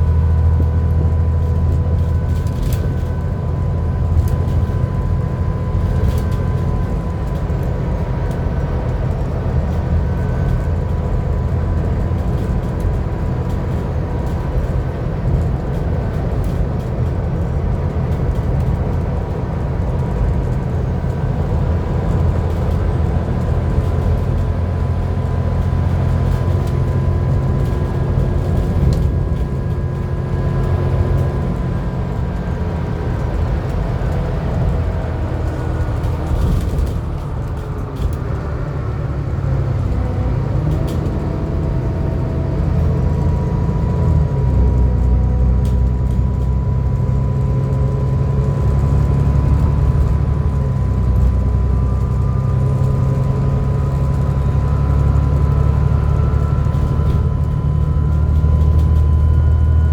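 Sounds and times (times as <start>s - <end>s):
bus engine drone: 0.0s - 59.9s
turbocharger whine: 0.0s - 59.9s.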